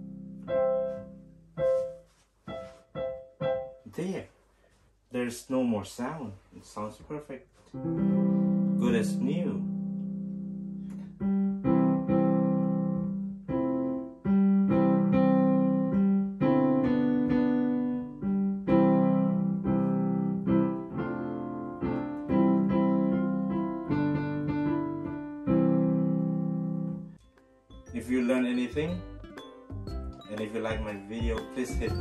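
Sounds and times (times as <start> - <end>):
electric piano chords: 0.0 - 3.9, 7.8 - 32.0.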